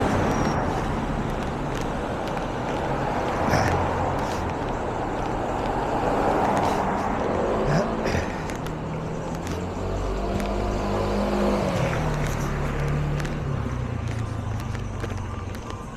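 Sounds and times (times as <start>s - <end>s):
low engine hum: 0.0s - 15.9s
motor vehicles passing: 0.0s - 15.9s.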